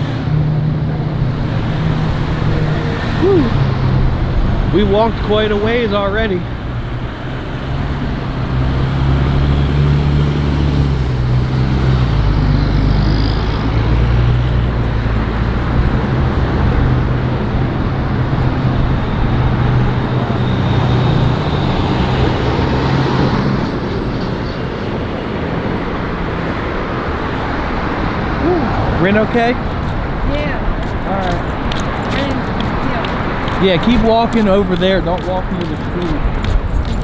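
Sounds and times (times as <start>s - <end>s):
large vehicle engine humming: 0.0s - 37.0s
street traffic: 0.0s - 37.0s.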